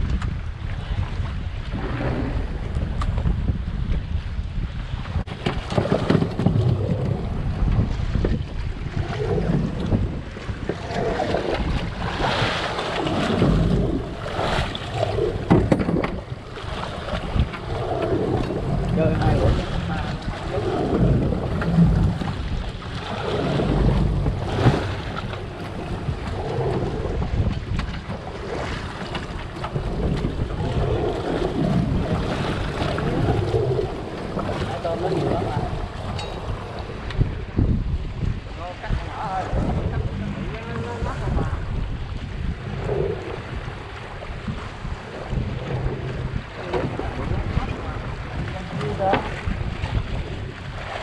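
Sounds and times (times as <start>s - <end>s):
choppy water churning: 0.0s - 51.0s
wind buffeting microphone: 0.0s - 51.0s
outboard motor running: 5.2s - 51.0s.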